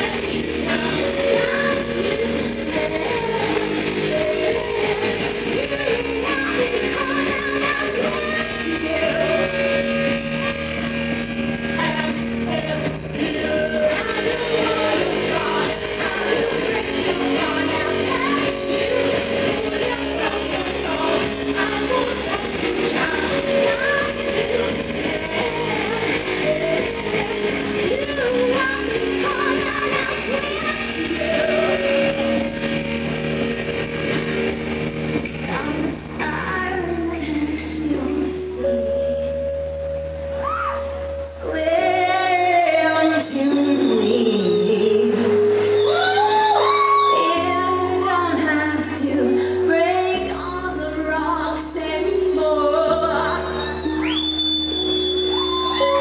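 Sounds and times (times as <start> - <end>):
woman singing into microphone: 0.0 - 32.8, 35.3 - 56.0
rock band playing live: 0.0 - 56.0.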